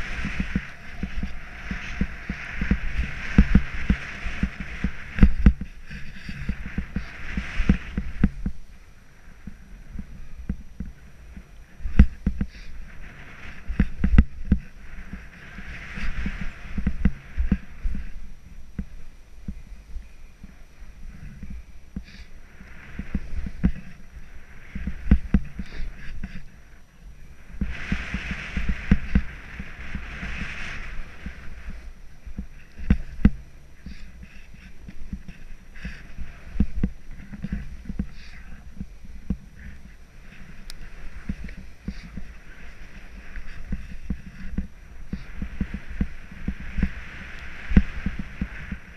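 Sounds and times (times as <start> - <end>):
skis hissing through snow: 0.0 - 10.3, 11.0 - 18.3, 22.0 - 26.6, 27.4 - 48.9.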